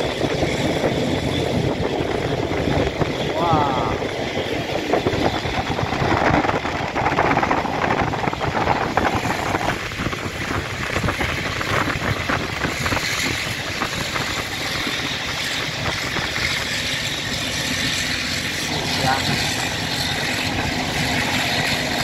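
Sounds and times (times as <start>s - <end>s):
train wheels rumbling and rattling: 0.0s - 22.0s.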